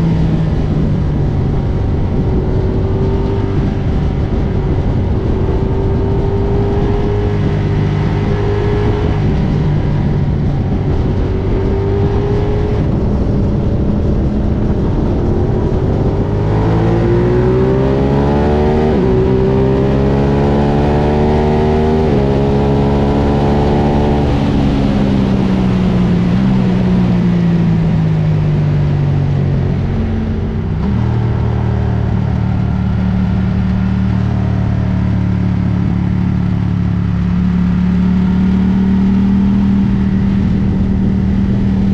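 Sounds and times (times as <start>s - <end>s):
motorcycle engine accelerating: 0.0s - 41.9s
wind rush: 0.0s - 41.9s.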